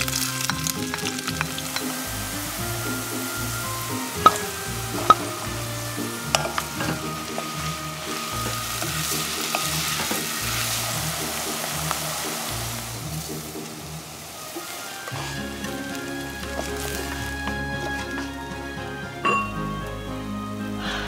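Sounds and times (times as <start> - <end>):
wooden spatula stirring: 0.0 - 13.8, 14.4 - 18.7
vegetables sizzling in a pot: 0.0 - 18.4
soft background music: 0.0 - 21.0.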